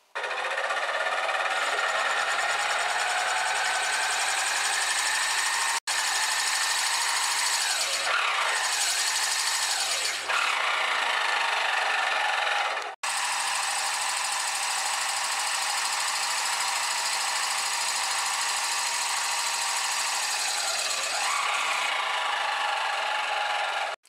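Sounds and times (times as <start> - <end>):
drill press cutting wood: 0.0 - 24.0.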